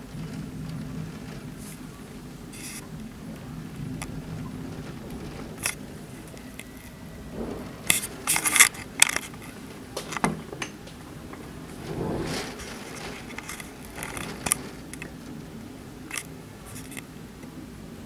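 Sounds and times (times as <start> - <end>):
wind and rain rushing: 0.0 - 18.0.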